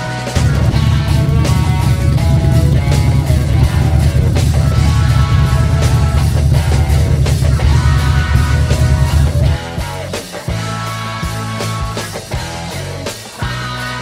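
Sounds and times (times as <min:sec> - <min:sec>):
rock music with heavy bass: 0:00.0 - 0:14.0.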